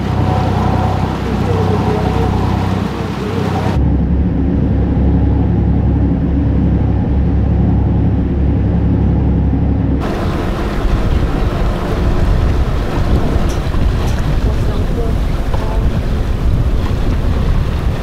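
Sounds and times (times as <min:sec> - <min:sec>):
boat engine running: 0:00.0 - 0:18.0
propeller wash churning water: 0:00.0 - 0:18.0.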